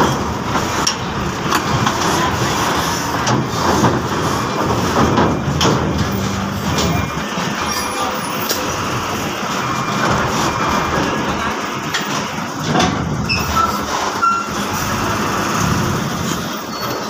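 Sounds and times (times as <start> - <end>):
truck diesel engine rumbling: 0.0 - 17.0.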